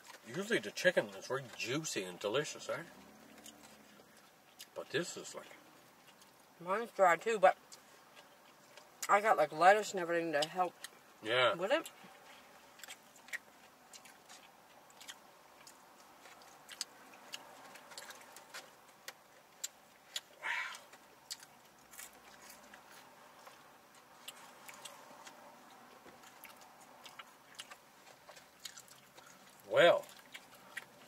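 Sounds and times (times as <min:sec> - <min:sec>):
faint chewing: 0:00.0 - 0:31.0.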